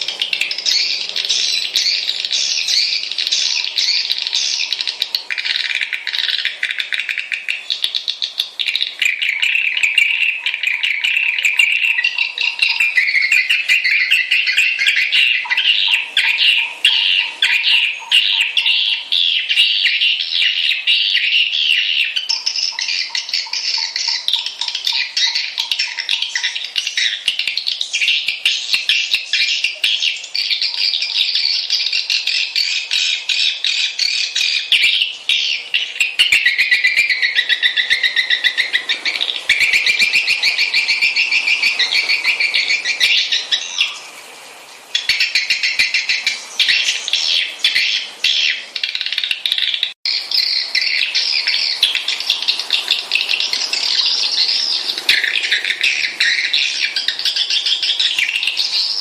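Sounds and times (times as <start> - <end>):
swiftlets twittering: 0.0 - 44.2, 44.8 - 59.0.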